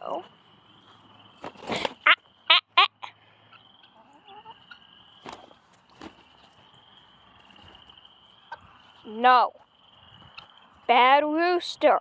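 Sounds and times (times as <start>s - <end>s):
poultry squawking: 1.4s - 11.0s.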